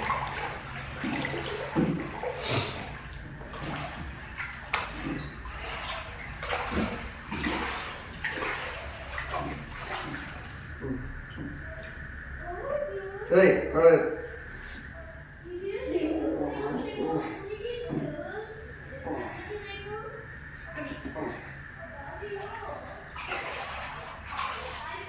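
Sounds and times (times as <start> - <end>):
floodwater splashing and sloshing: 0.0 - 13.0, 14.1 - 25.0
steady low hum: 0.0 - 25.0.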